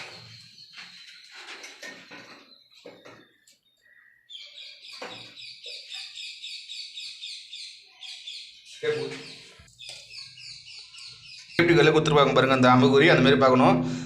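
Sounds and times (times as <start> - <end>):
small bird chirping: 0.0 - 13.3.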